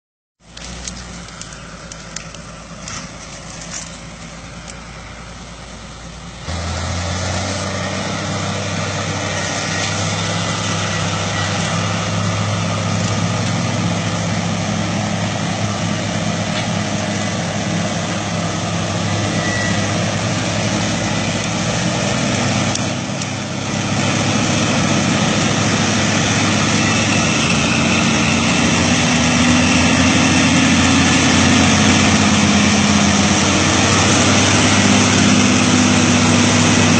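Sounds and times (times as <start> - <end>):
diesel engines under load: 0.4 - 36.9.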